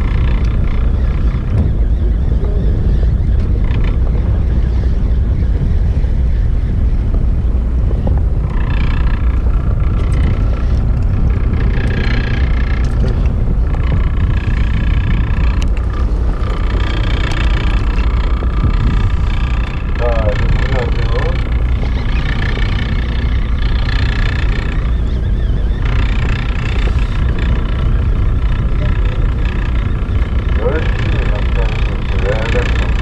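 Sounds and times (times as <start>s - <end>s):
boat engine rumbling: 0.0s - 33.0s.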